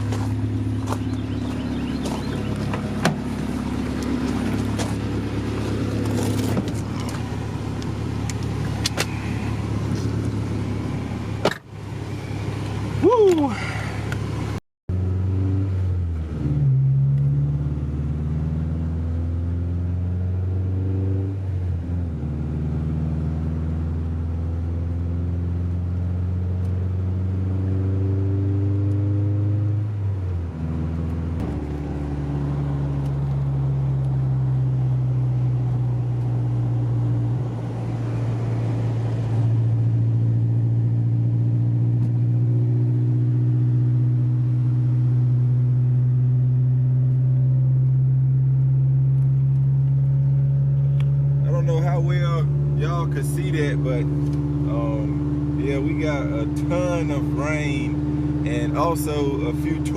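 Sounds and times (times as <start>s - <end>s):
car engine under load: 0.0s - 59.9s.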